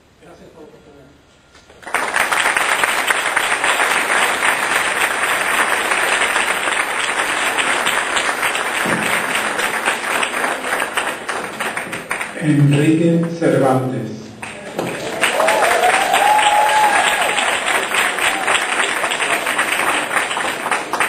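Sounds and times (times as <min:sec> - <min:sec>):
audience applauding: 0:01.7 - 0:21.0.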